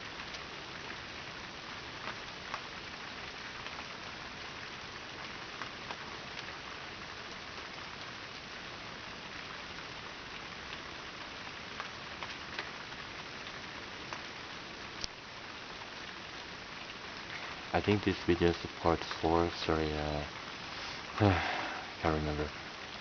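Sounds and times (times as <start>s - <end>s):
raindrops ticking close by: 0.0s - 23.0s
steady rain falling: 0.0s - 23.0s.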